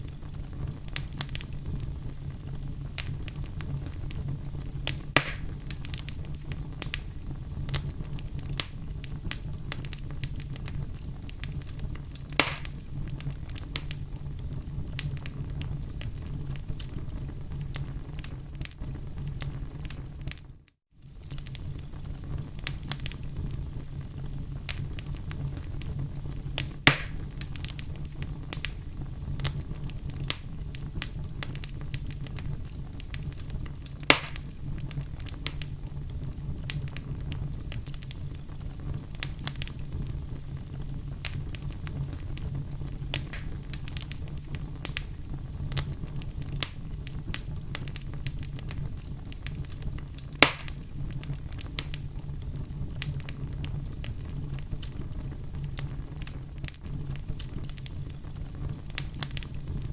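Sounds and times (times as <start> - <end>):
fire crackling in a fireplace: 0.0 - 59.9
loud fire pops: 0.0 - 59.9.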